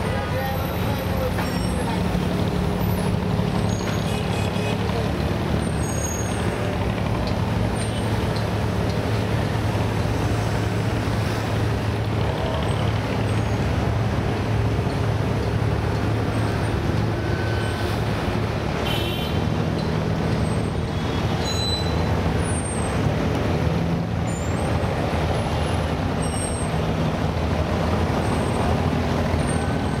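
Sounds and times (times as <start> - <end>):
boat diesel engines droning: 0.0 - 30.0.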